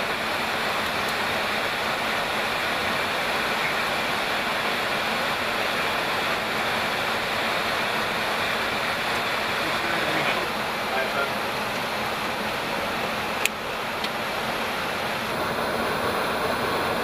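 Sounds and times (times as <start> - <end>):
jet engine rushing noise: 0.0 - 17.0.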